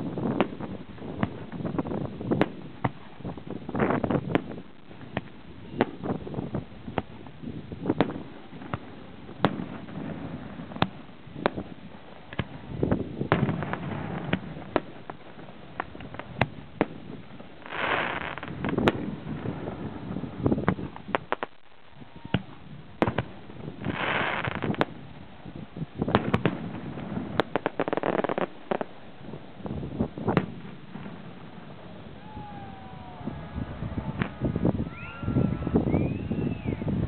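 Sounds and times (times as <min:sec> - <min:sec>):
fireworks bangs and pops: 0:00.0 - 0:32.8, 0:33.9 - 0:34.9.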